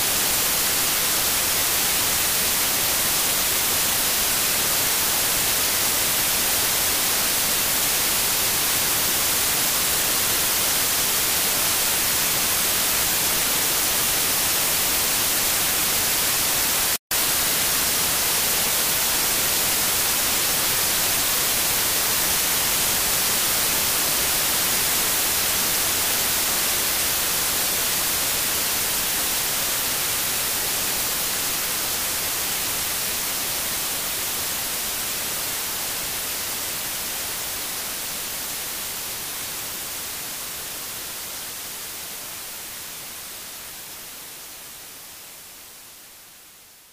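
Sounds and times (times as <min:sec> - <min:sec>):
static hiss: 0:00.0 - 0:46.9.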